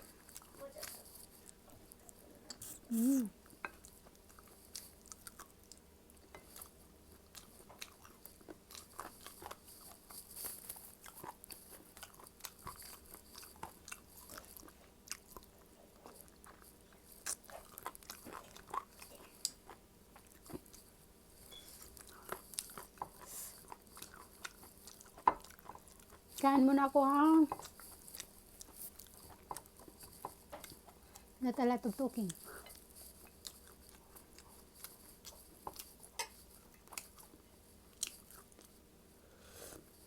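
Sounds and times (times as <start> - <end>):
crunching and chewing: 0.0 - 2.8, 3.4 - 21.1, 21.7 - 26.6, 27.5 - 31.4, 32.0 - 38.9.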